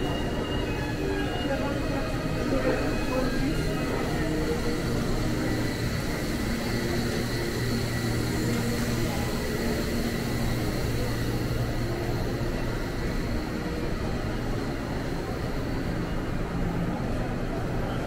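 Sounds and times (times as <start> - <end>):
murmur of voices: 0.0 - 18.0.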